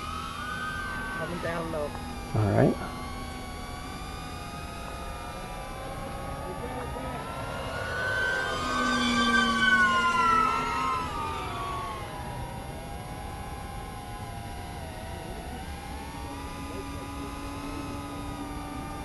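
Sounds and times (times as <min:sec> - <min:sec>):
drone motors and propellers whining: 0:00.0 - 0:19.0
steady lower tone: 0:00.0 - 0:19.0.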